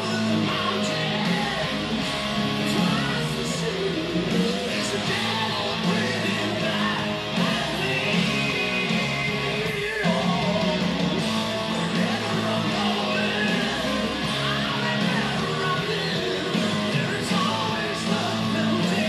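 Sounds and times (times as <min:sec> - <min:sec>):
hard rock song with electric guitars: 0:00.0 - 0:19.0.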